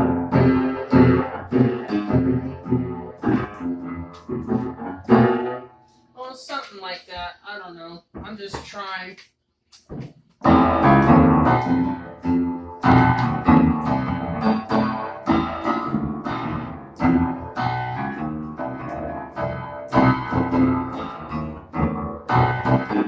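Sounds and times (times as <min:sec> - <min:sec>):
electronic keyboard piano chords: 0:00.0 - 0:06.0, 0:10.4 - 0:23.0.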